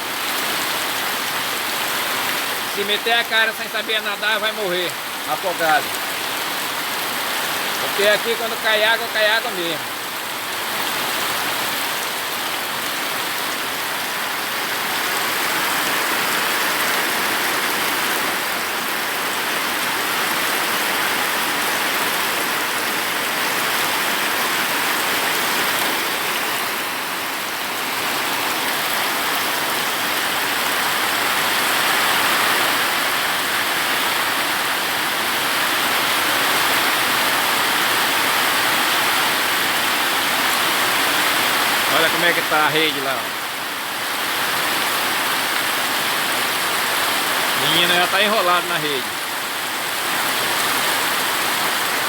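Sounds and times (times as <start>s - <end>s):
heavy rain downpour: 0.0s - 52.0s.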